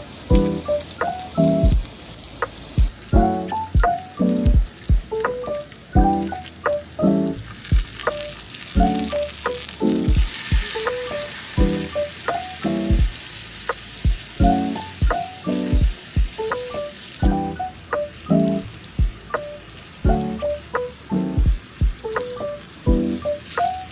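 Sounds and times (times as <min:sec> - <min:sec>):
sizzling hiss: 0:00.0 - 0:23.9
background music with drum beat: 0:00.3 - 0:23.9.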